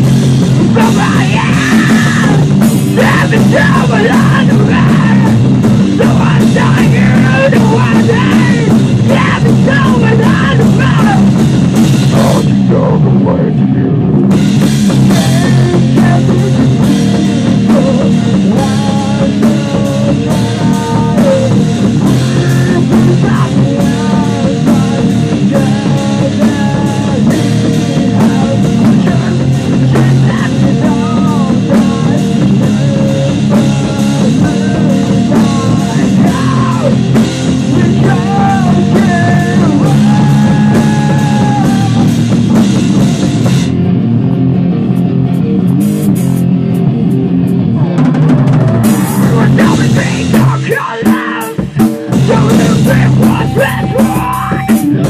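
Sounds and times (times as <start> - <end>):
drum kit: 0.0 - 55.0
guitar: 0.0 - 55.0
person singing into a microphone: 0.7 - 11.4, 12.0 - 14.0, 15.1 - 42.5, 47.8 - 55.0.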